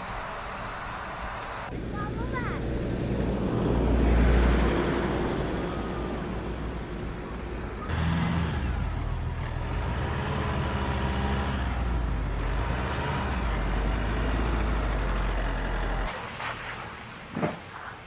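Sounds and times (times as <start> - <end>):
vehicle engine rumbling: 0.0 - 4.0, 5.0 - 17.7.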